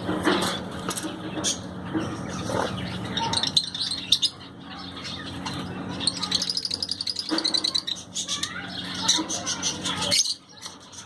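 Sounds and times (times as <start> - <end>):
budgies chirping and chattering: 0.0 - 11.0.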